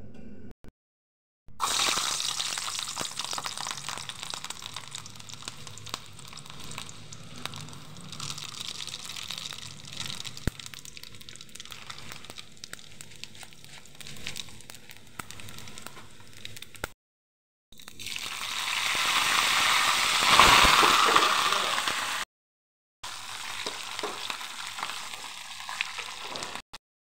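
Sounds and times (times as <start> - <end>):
hot oil sizzling and crackling: 1.6 - 17.0, 17.8 - 22.2, 23.0 - 26.7.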